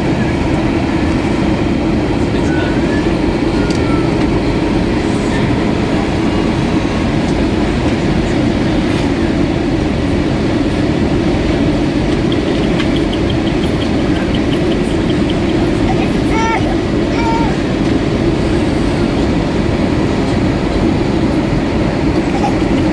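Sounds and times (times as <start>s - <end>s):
jet engine cabin roar: 0.0s - 22.9s.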